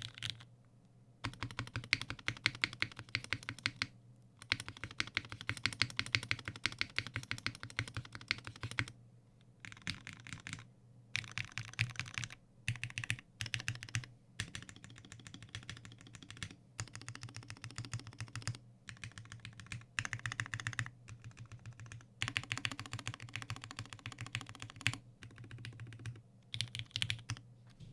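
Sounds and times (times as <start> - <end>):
fast typing on mechanical keyboard: 0.0 - 0.5, 1.2 - 8.9, 9.6 - 27.4.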